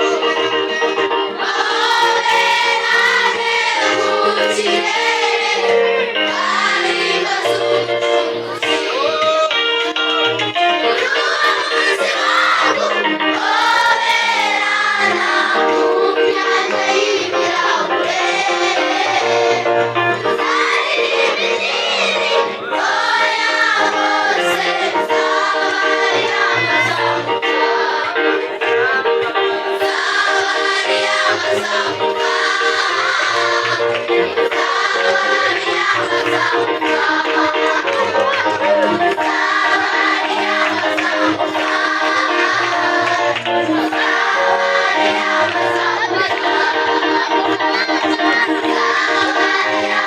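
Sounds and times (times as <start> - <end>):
children's choir singing: 0.0 - 50.0
keyboard chords: 0.0 - 50.0.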